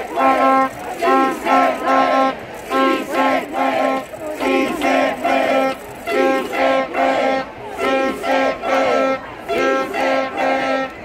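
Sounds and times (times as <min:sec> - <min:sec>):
voices singing along: 0:00.0 - 0:11.0.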